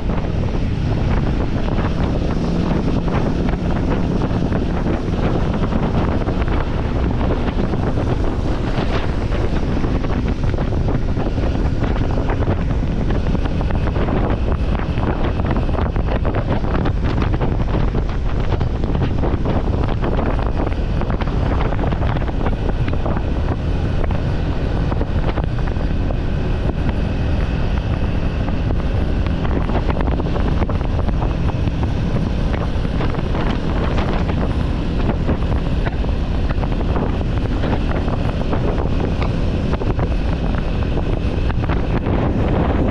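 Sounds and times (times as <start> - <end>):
steady low rumble: 0.0 - 42.9
wind buffeting microphone: 0.0 - 42.9.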